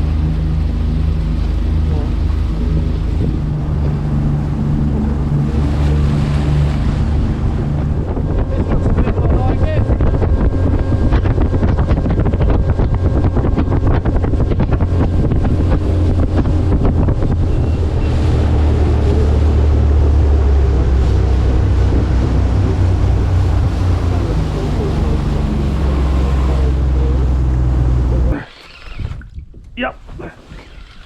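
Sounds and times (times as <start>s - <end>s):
outboard motor running: 0.0s - 31.0s
wind buffeting microphone: 0.0s - 31.0s.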